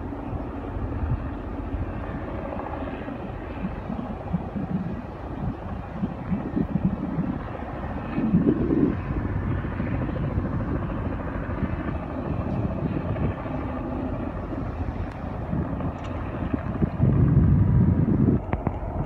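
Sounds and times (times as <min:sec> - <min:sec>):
boat engine rumble: 0:00.0 - 0:19.0
wind buffeting microphone: 0:00.0 - 0:19.0.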